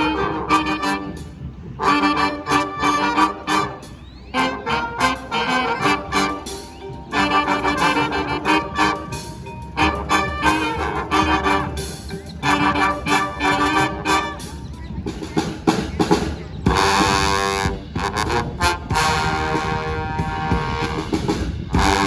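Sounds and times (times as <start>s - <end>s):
brass band playing: 0.0s - 22.0s
drums: 0.0s - 22.0s.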